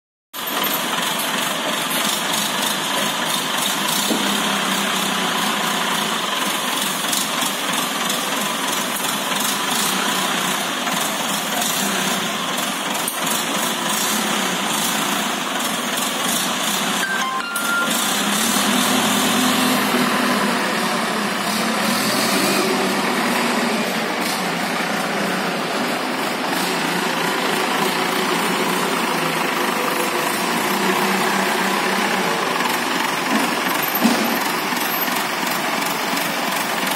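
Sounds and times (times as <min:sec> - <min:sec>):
forklift engine running: 0:00.4 - 0:36.9.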